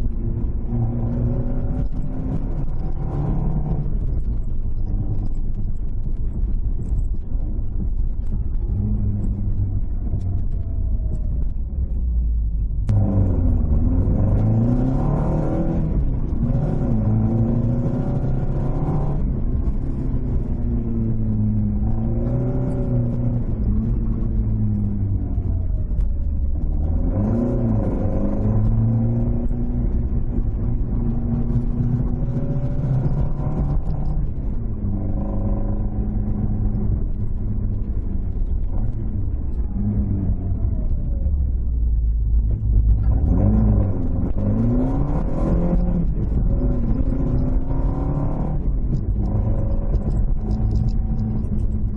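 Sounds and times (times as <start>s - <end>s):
car engine revving and shifting gears: 0.0s - 51.9s.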